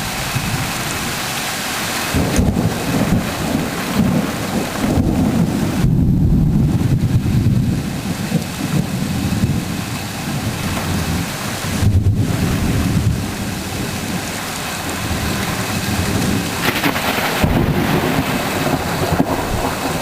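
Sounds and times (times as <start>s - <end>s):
steady rain: 0.0s - 20.0s
rolling thunder: 2.1s - 20.0s.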